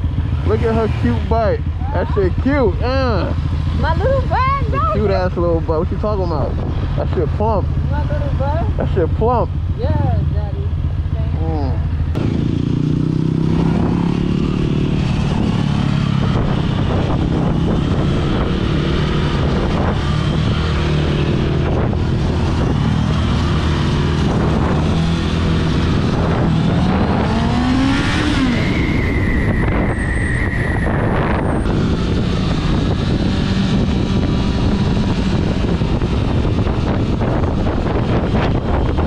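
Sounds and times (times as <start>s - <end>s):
motorcycle engine running: 0.0s - 29.0s, 31.2s - 39.0s.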